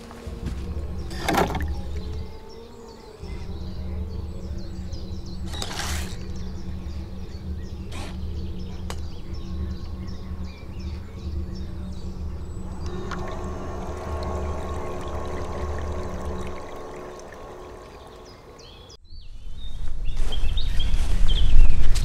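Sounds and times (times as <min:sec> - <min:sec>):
electric motor humming: 0:00.0 - 0:18.9
faint bird chirps: 0:00.0 - 0:21.9.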